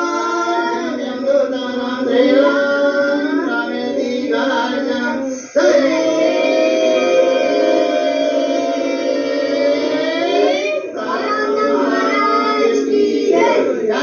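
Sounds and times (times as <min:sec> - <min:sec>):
hymn sung with accompaniment: 0:00.0 - 0:14.0.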